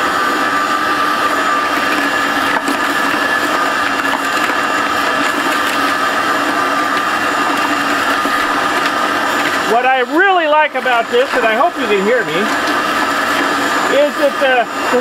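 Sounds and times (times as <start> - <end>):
shop vacuum whining: 0.0 - 15.0.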